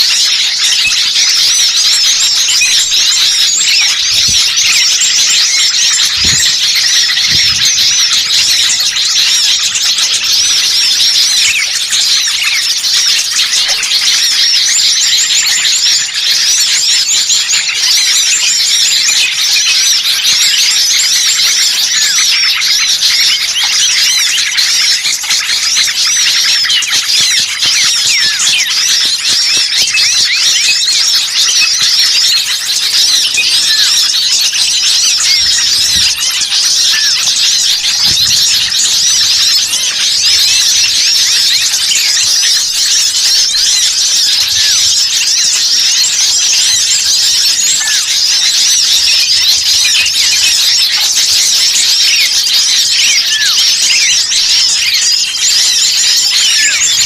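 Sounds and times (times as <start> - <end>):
songbird chorus chirping: 0.0 - 51.0.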